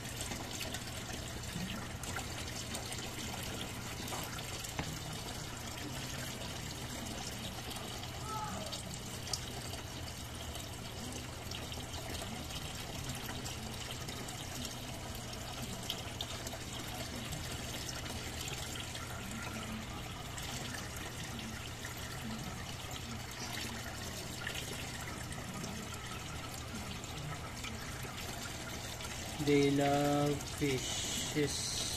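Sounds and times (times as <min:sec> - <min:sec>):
water trickling: 0:00.0 - 0:31.9.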